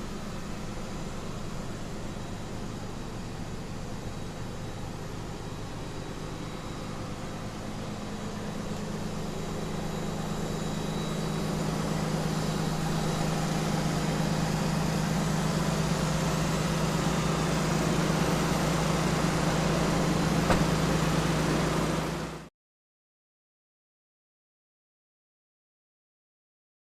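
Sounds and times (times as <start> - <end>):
street sweeper engine hum: 0.0 - 22.4.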